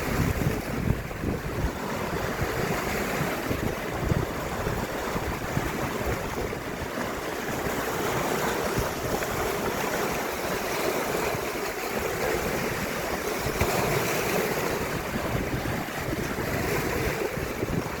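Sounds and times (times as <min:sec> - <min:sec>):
sea waves washing in: 0:00.0 - 0:18.0
wind buffeting microphone: 0:00.0 - 0:18.0.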